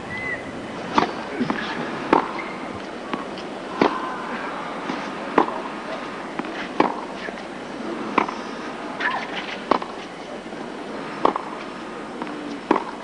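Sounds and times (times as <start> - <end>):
racket hitting tennis ball: 0.8 - 13.0.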